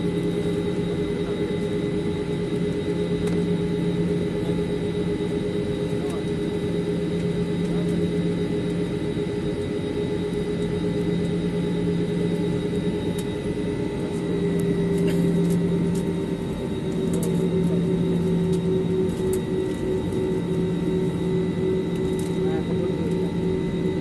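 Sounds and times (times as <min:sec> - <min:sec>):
jet engine drone in cabin: 0:00.0 - 0:24.0.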